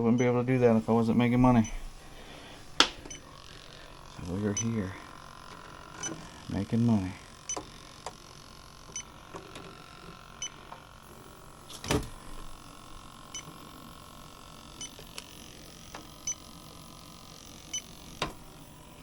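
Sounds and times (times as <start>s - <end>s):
leak detector beeping: 0.0s - 1.9s, 2.8s - 18.2s.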